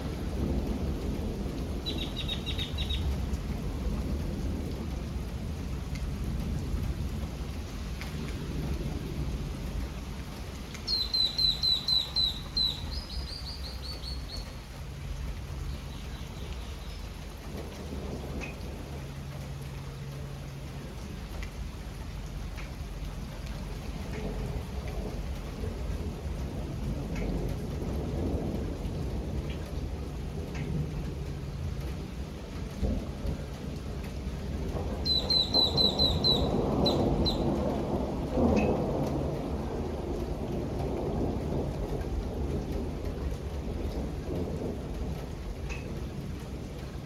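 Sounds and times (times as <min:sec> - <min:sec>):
rolling thunder: 0:00.0 - 0:47.0
steady rain: 0:00.0 - 0:47.0.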